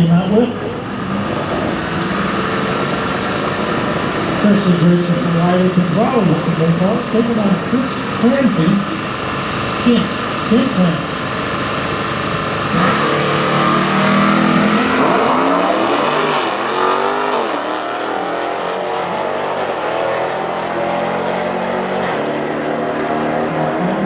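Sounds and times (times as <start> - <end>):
race car engines at full throttle: 0.0 - 24.0.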